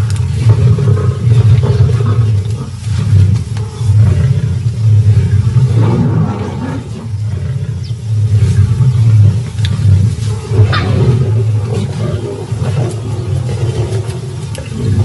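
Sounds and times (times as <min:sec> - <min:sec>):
lioness growling: 0:00.0 - 0:15.0.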